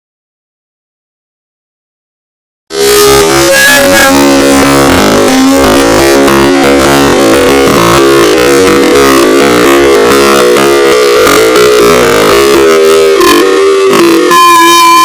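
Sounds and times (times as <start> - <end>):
harsh distorted alarm tones: 2.7 - 15.0.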